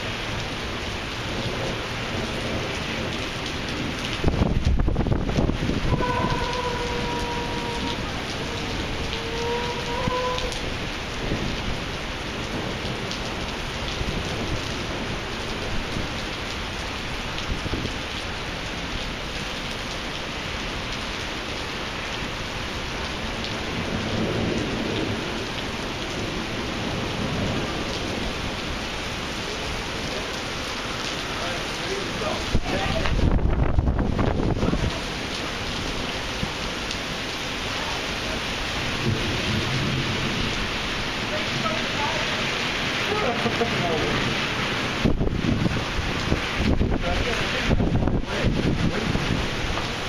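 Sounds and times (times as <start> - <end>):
thunder rumbling: 0.0 - 18.0, 23.2 - 30.6, 31.2 - 36.6, 38.3 - 50.0
heavy rain on pavement: 0.0 - 50.0.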